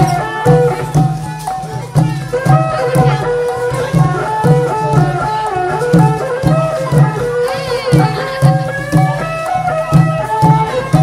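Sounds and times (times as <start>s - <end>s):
drum beats: 0.0s - 11.0s
sharp percussive strikes: 0.0s - 11.0s.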